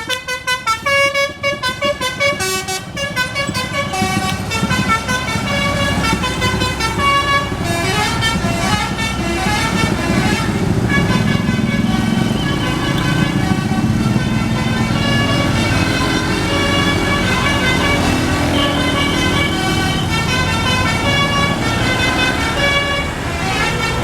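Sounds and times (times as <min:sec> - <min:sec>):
bus horn playing a melody: 0:00.0 - 0:24.0
engine and traffic noise: 0:00.0 - 0:24.0.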